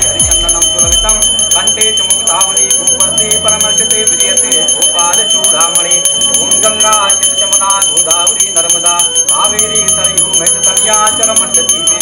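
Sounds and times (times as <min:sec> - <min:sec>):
hand bell rung rapidly: 0:00.0 - 0:12.0
music with wavering melody: 0:00.0 - 0:12.0.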